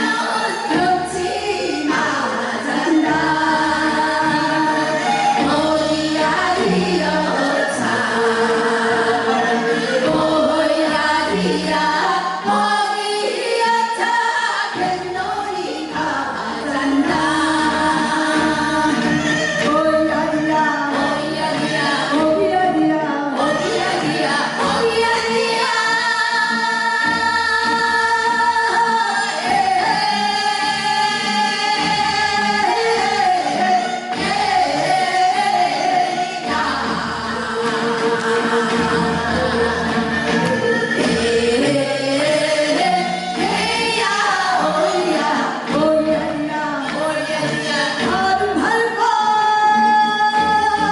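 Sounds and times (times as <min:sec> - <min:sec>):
women singing folk song: 0:00.0 - 0:50.9.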